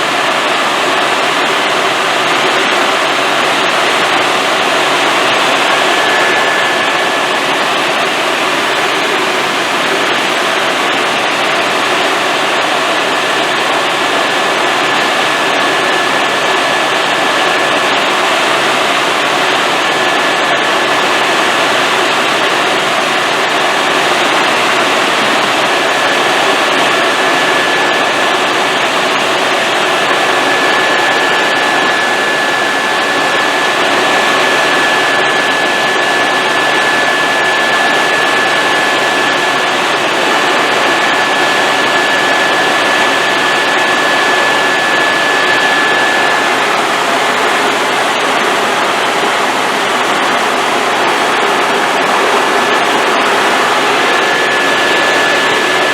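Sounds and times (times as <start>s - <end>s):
helicopter engine and rotors: 0.0s - 55.9s
thin high whine: 0.0s - 55.9s.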